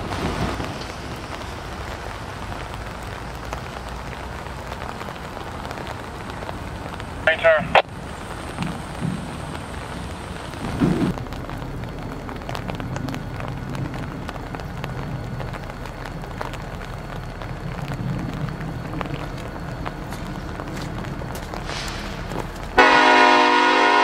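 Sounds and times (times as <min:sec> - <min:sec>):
diesel locomotive rumble: 0:00.0 - 0:24.0
steady rain falling: 0:00.0 - 0:24.0.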